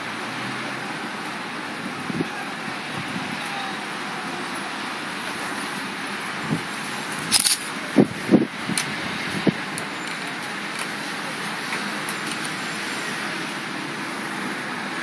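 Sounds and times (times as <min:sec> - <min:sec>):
city traffic: 0:00.0 - 0:15.0
tyres on a wet road: 0:00.0 - 0:15.0.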